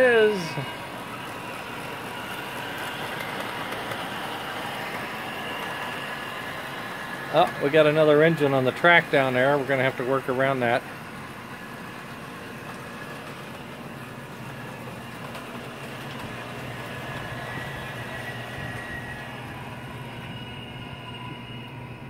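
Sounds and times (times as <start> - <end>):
diesel engine sound effect: 0.0 - 22.0
model train wheels rumbling: 0.0 - 22.0.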